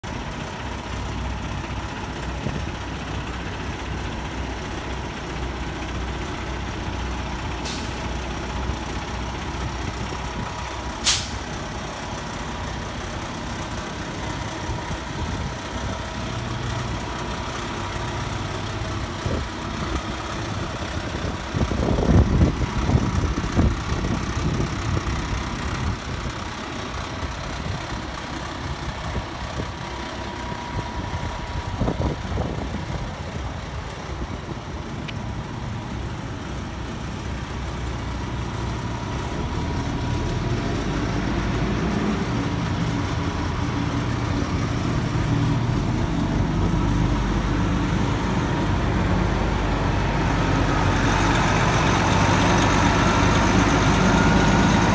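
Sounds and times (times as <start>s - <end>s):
heavy truck idling: 0.0s - 54.9s.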